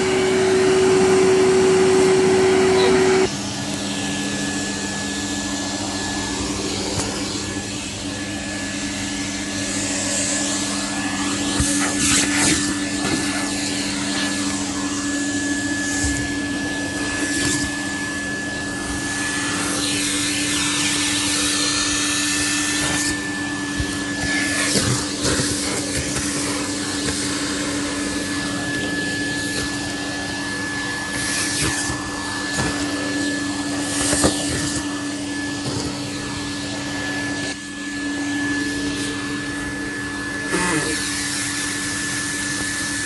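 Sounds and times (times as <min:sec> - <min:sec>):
vacuum cleaner motor humming: 0:00.0 - 0:43.0.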